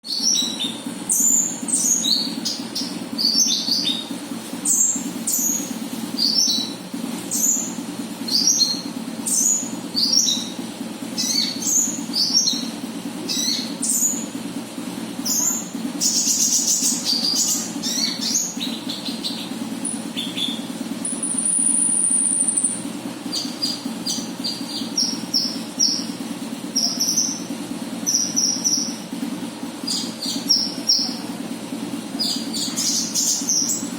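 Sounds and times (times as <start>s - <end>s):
steady low hum: 0.0s - 33.9s
high falling bird chirps: 0.1s - 14.3s, 15.2s - 26.2s, 26.8s - 29.0s, 29.8s - 31.2s, 32.2s - 33.9s.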